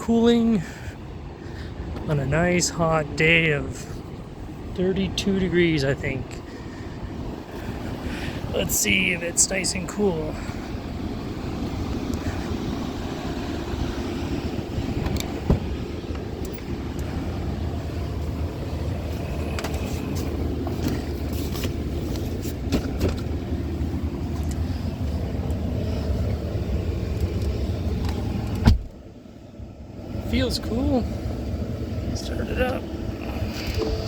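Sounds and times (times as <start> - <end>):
vehicle mechanical hum: 0.0 - 34.0.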